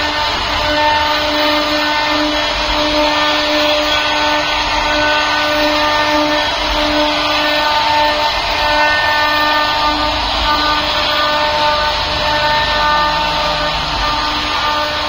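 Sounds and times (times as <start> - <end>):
router spindle cutting wood: 0.0 - 15.0.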